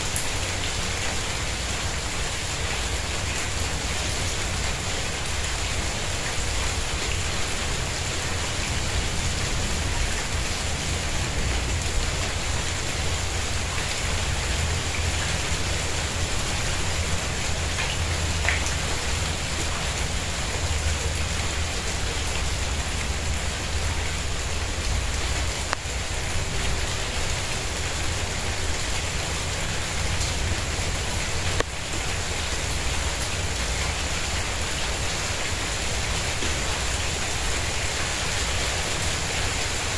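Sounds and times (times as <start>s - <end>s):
continuous low rumble: 0.0s - 39.9s
rain falling on tiles: 0.0s - 39.9s.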